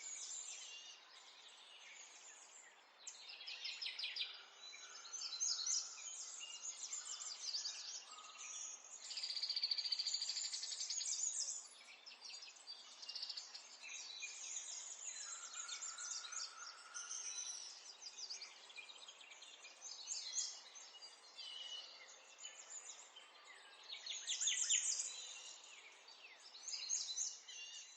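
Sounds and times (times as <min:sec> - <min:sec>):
songbirds singing and trilling: 0:00.0 - 0:27.9.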